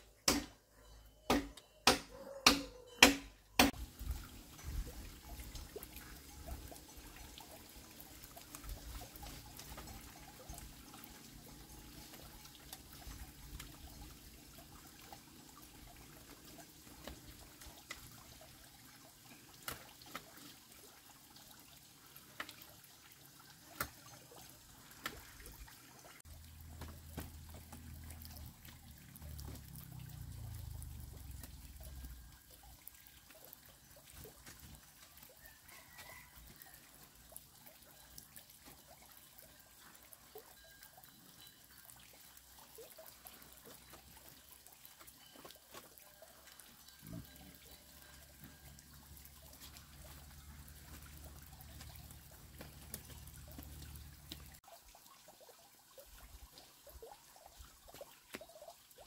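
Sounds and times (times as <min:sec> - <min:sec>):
faint water trickling: 0:03.7 - 0:59.0.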